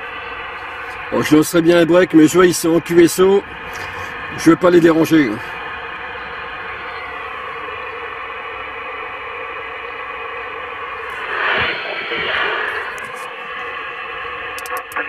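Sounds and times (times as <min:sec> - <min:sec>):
garbled wavering radio signal: 0:00.0 - 0:15.0
radio hiss and static: 0:00.0 - 0:15.0.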